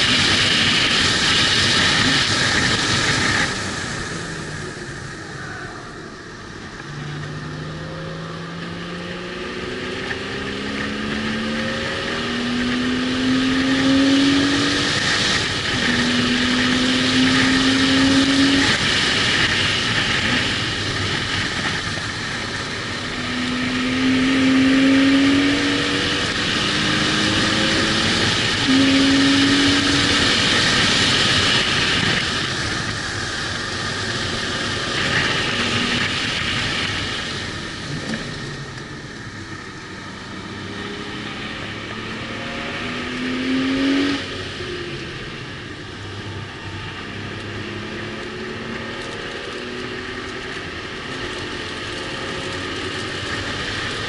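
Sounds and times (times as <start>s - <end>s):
wind noise: 0.0s - 6.0s, 8.7s - 54.0s
car engine accelerating: 0.0s - 54.0s.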